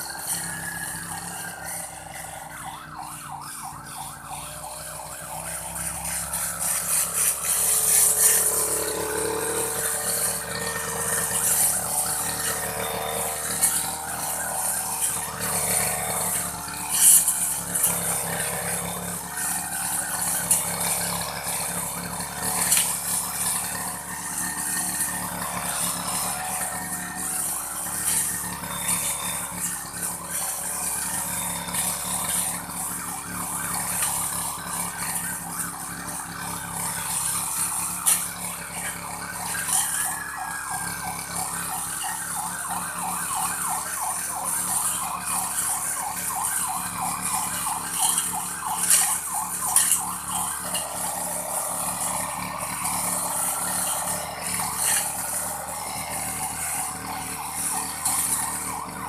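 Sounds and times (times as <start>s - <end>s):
grass-cutting machine running: 0.0s - 59.0s.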